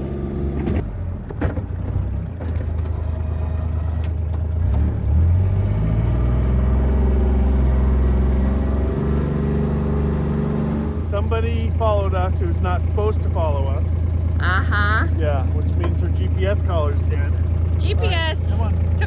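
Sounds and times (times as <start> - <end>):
utv engine running under load: 0.0 - 19.0.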